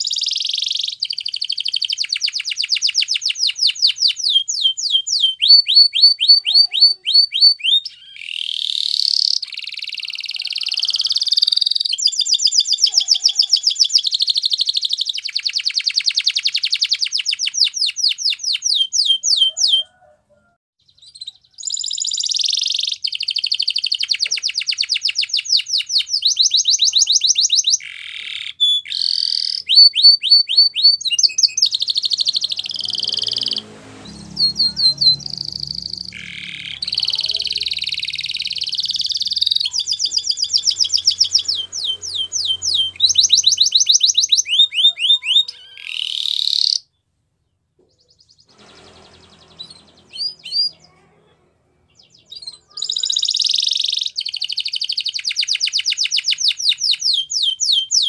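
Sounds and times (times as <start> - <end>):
canary singing trills: 0.0 - 20.1, 20.8 - 51.1, 51.8 - 58.0.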